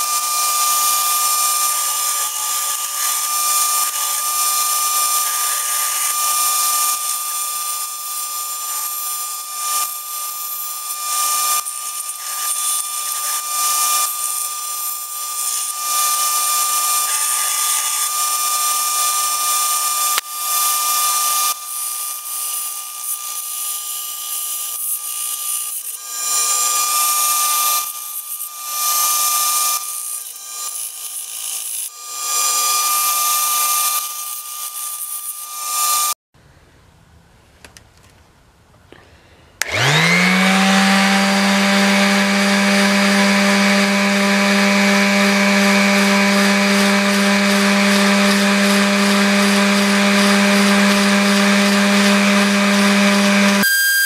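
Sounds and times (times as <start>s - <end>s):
belt sander whining: 0.0s - 36.2s, 39.6s - 54.0s
wood rasping on sanding belt: 0.0s - 36.2s, 39.6s - 53.6s.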